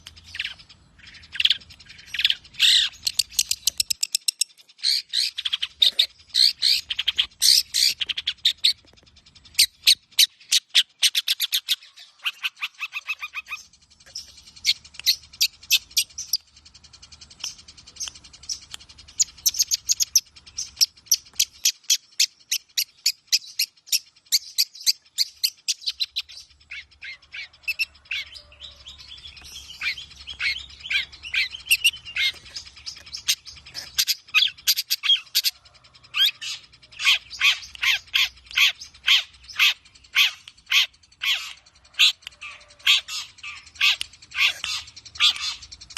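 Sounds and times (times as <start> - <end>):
shrike singing sharp chatter: 0.0 - 45.9.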